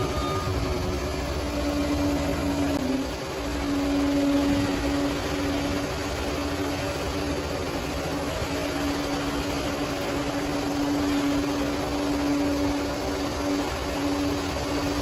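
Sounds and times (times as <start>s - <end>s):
bulldozer diesel engine: 0.0s - 15.0s
steady tonal hum: 0.0s - 15.0s.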